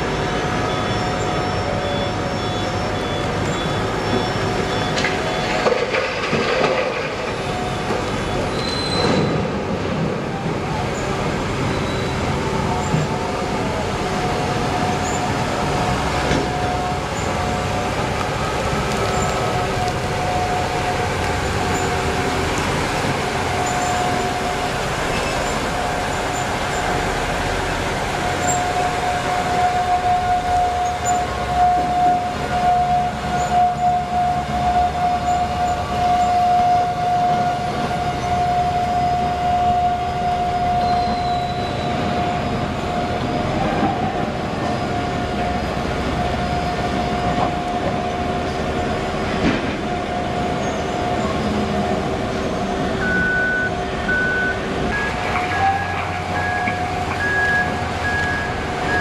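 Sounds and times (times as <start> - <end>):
mining dump truck driving: 0.0 - 59.0.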